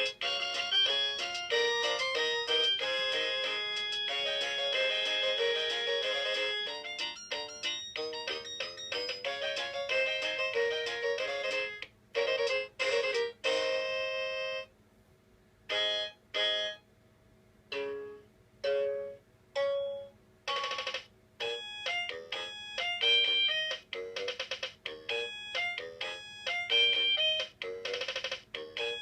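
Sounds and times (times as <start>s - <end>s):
electronic toy keyboard tune: 0.0s - 14.7s, 15.7s - 16.8s, 17.7s - 29.0s.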